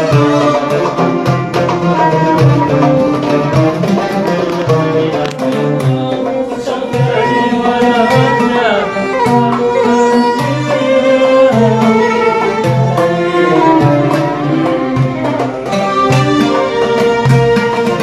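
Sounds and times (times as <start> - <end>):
live band on oud violin and keyboard: 0.0 - 18.0
low percussion beat: 0.0 - 18.0.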